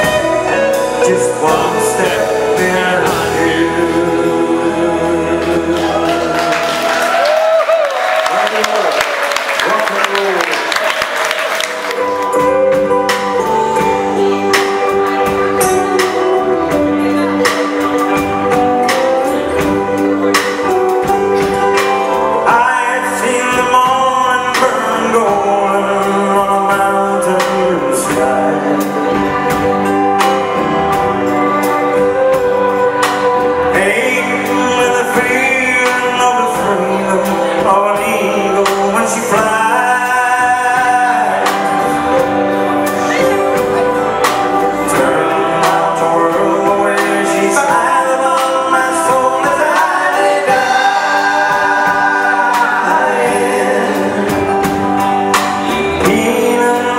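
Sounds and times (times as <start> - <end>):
man singing: 0.0 - 7.7, 11.8 - 56.9
drums with steady beat: 0.0 - 7.8, 9.6 - 56.9
keyboard: 0.0 - 56.9.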